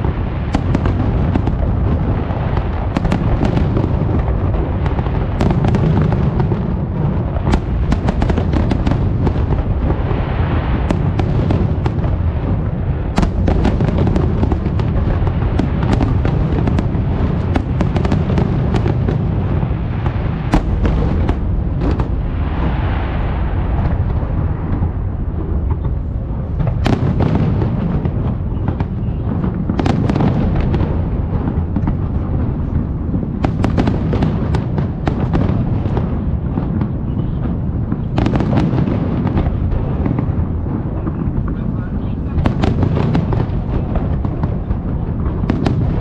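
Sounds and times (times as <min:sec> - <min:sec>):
fireworks booming: 0:00.0 - 0:46.0
fireworks cracking and crackling: 0:00.0 - 0:46.0.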